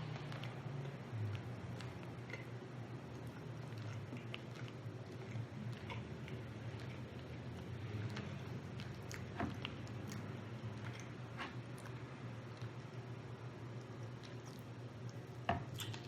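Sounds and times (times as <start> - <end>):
low steady hum: 0.0 - 16.0
person chewing food: 0.0 - 16.0.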